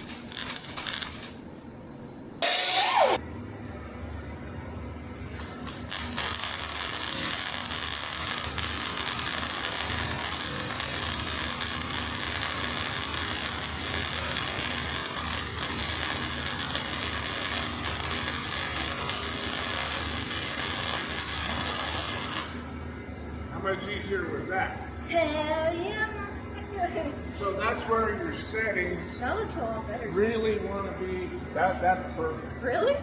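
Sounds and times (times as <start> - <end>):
welding arc crackling: 0.0 - 1.6, 2.4 - 33.0
low electrical hum: 0.0 - 33.0.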